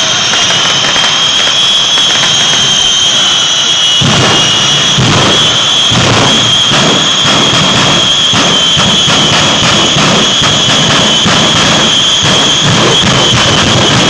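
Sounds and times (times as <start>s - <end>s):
jet turbine engines roaring: 0.0s - 14.0s.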